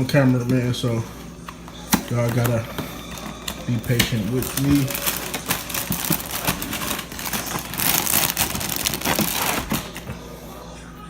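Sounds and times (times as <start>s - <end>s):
rustling and crinkling handling: 0.0s - 10.5s.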